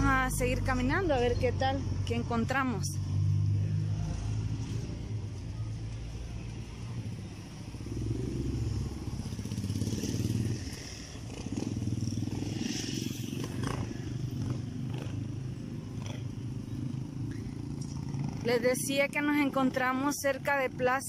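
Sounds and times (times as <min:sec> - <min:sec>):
low uneven street rumble: 0:00.0 - 0:21.0.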